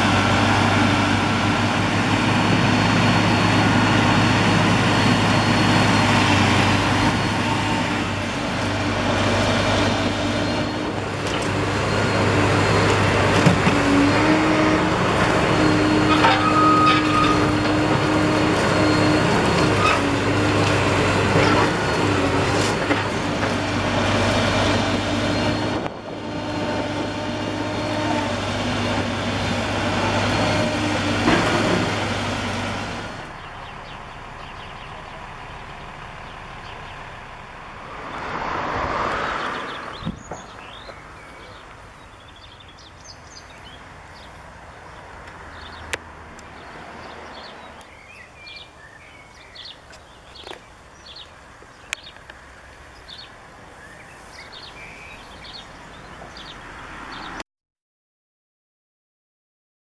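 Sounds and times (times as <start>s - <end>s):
excavator engine drone: 0.0s - 57.4s.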